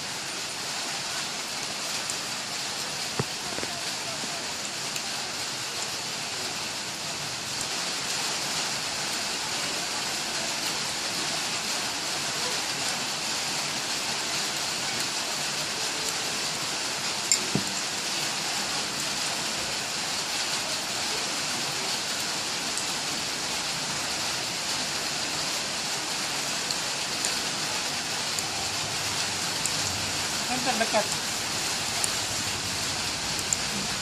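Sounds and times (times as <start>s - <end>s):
steady rain-like hiss: 0.0s - 34.0s.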